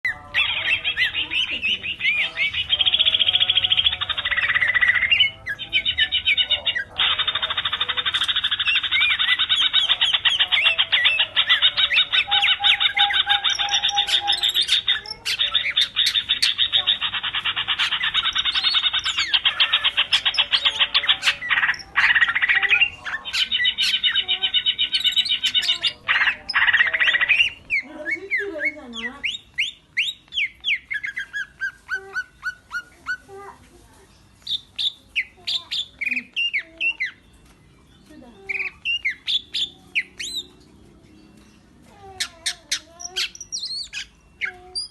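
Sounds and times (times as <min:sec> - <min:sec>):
bird singing rapid repeated notes: 0:00.0 - 0:33.2, 0:34.2 - 0:44.9.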